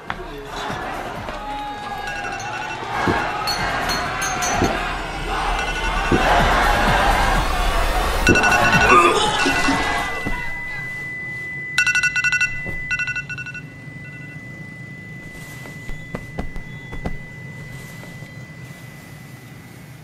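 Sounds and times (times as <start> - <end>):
thin high tone: 0.0 - 20.0
rapid electronic alarm beeps: 1.4 - 19.4.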